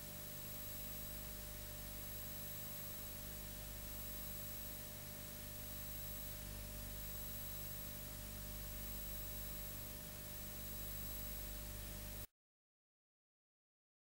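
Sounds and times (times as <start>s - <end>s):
faint high whine: 0.0s - 12.3s
low electrical hum: 0.0s - 12.3s.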